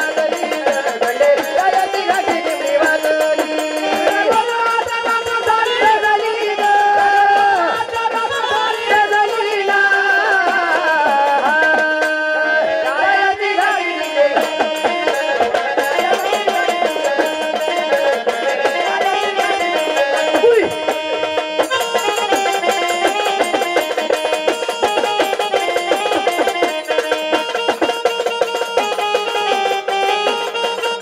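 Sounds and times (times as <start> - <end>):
steady drum rhythm: 0.0 - 31.0.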